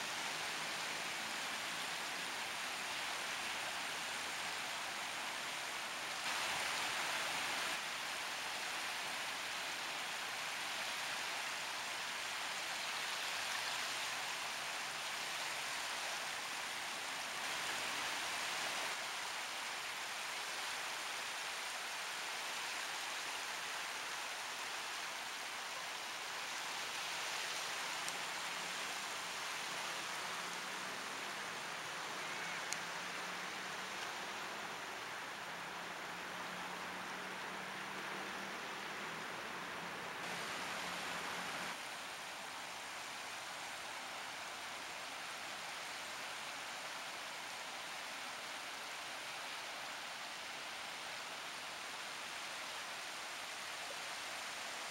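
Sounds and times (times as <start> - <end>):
rushing water hiss: 0.0 - 54.9.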